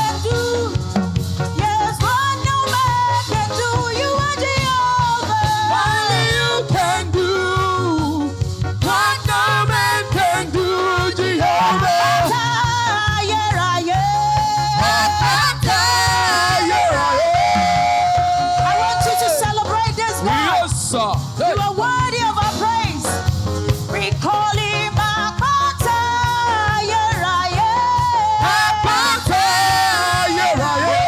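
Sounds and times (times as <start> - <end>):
band with bass and drums: 0.0 - 31.0
gospel singing: 0.0 - 31.0.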